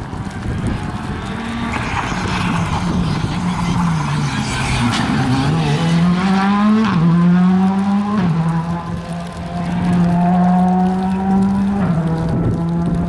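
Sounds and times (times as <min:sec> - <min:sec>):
rally car accelerating through gears: 0:01.2 - 0:13.0.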